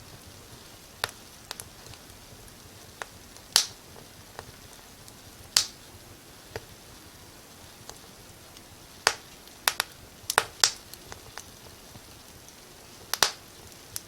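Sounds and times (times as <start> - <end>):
faint steady hiss: 0.0 - 14.0
wood fire crackling: 0.0 - 14.0.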